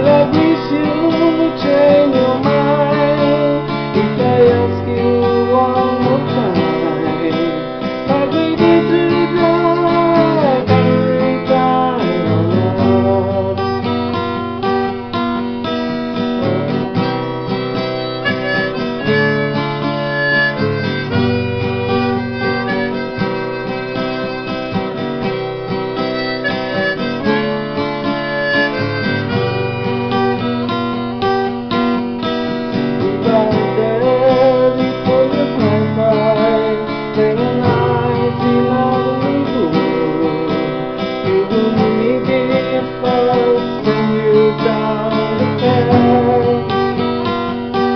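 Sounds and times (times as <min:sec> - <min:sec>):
harmonica melody: 0:00.0 - 0:47.9
strummed acoustic guitar: 0:00.0 - 0:47.9.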